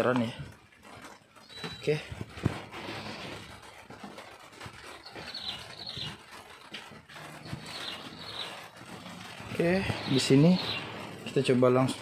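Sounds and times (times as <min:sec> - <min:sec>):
bird chirping: 0:01.4 - 0:03.6, 0:04.5 - 0:12.0.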